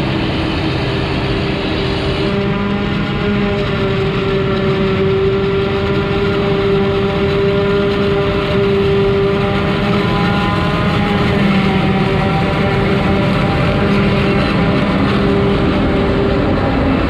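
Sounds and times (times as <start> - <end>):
heavy diesel machinery droning: 0.0 - 17.0.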